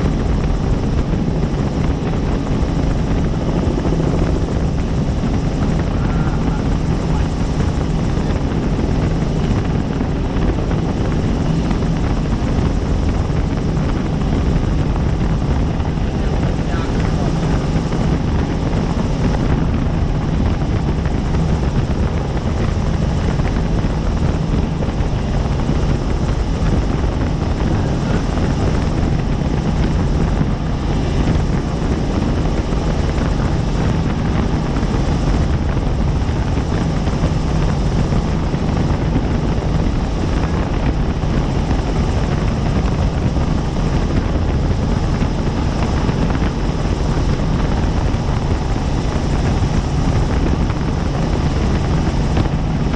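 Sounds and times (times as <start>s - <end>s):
helicopter drone from cabin: 0.0s - 52.9s.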